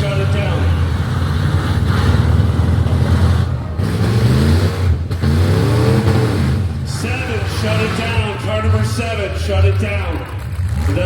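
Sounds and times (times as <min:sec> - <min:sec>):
car engines running loud: 0:00.0 - 0:11.0
engine revving up: 0:00.0 - 0:11.0.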